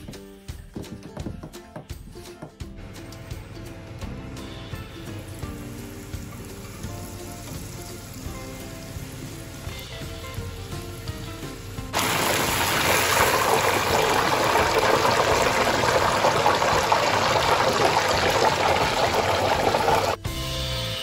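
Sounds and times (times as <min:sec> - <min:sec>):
oil sizzling in deep fryer: 0:04.0 - 0:21.0.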